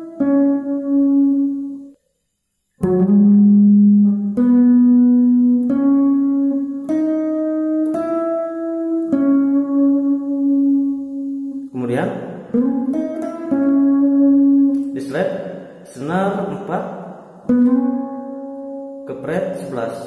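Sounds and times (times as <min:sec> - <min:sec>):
electric guitar melody: 0:00.0 - 0:02.0, 0:02.8 - 0:19.9.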